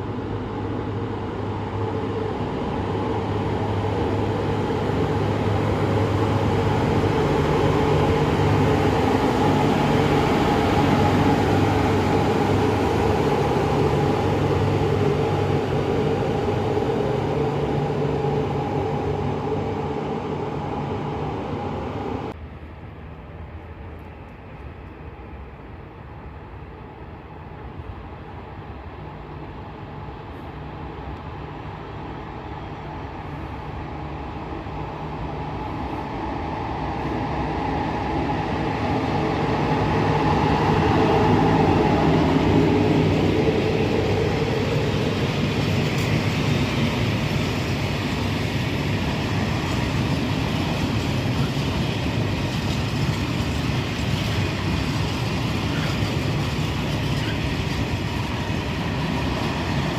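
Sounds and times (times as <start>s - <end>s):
train passing: 0.0s - 59.9s.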